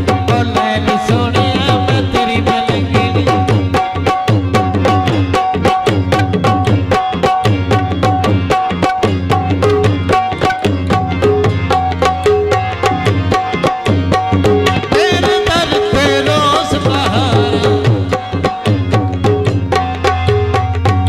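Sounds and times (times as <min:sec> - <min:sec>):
harmonium notes: 0:00.0 - 0:21.0.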